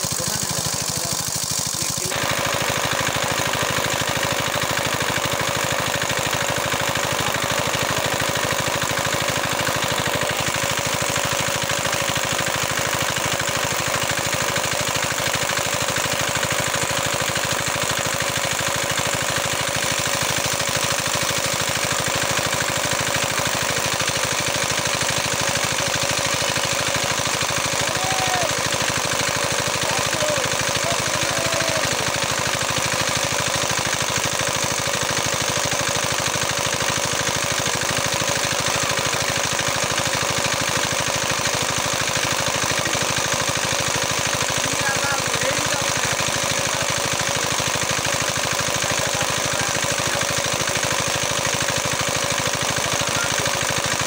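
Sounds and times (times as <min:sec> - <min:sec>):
water pump engine chugging: 0:00.0 - 0:54.0.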